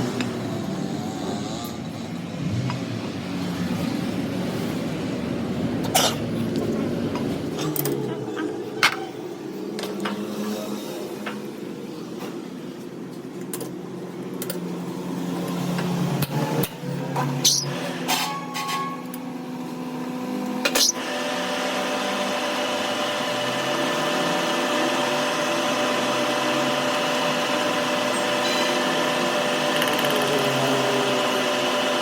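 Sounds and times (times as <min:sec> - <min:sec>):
workshop machine running: 0:00.0 - 0:32.0.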